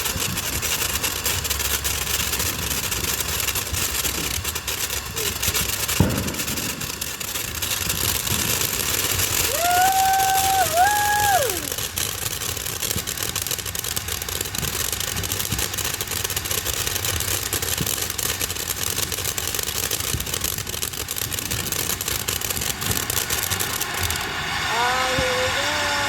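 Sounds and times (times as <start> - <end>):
firework hissing and crackling: 0.0 - 26.0.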